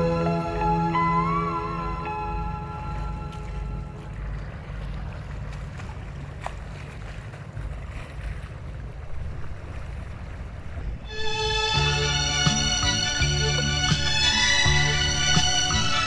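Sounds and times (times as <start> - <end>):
waves washing: 0.0 - 16.0.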